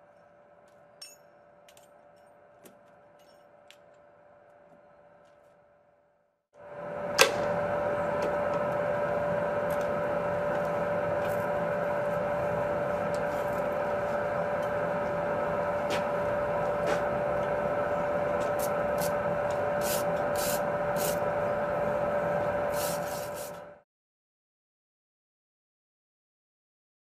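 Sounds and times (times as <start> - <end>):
machine hum with steady tone: 0.0 - 23.8.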